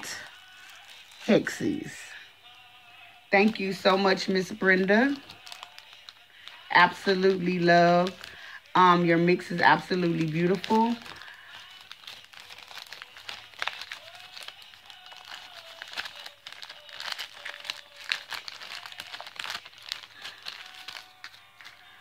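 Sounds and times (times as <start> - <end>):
plastic bag crinkling: 0.0 - 2.2, 3.4 - 22.0.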